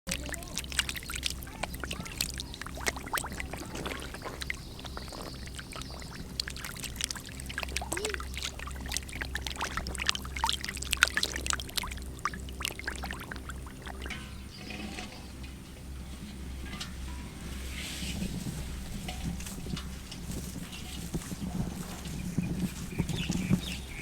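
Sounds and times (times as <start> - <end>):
shallow water splashing: 0.1 - 24.0
steady low hum: 0.1 - 24.0.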